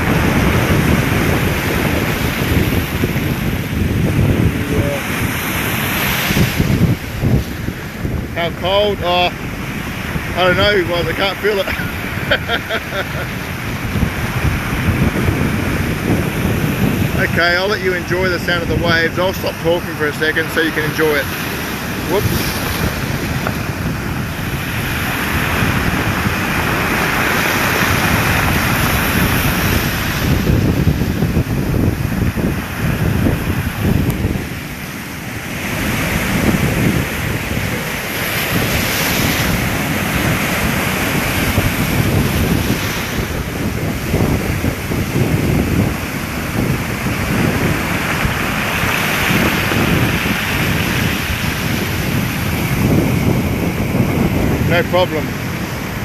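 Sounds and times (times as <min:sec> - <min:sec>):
sea waves breaking: 0:00.0 - 0:56.0
wind buffeting microphone: 0:00.0 - 0:56.0.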